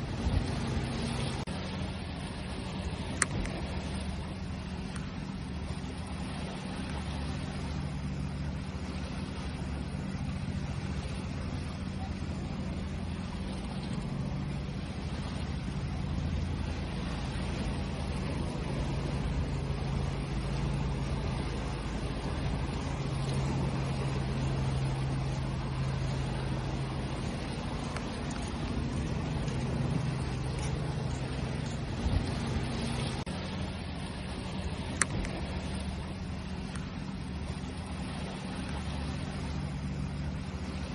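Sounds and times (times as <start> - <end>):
low hum: 0.0 - 40.9
waves washing: 0.0 - 40.9.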